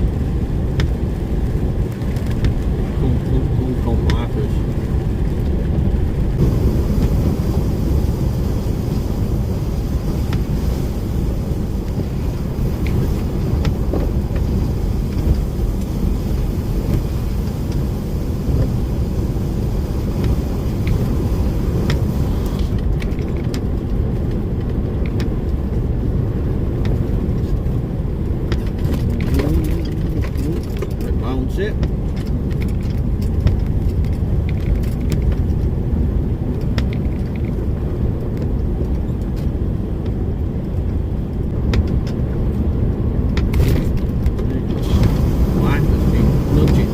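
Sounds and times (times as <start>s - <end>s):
lorry engine and road rumble: 0.0s - 46.9s.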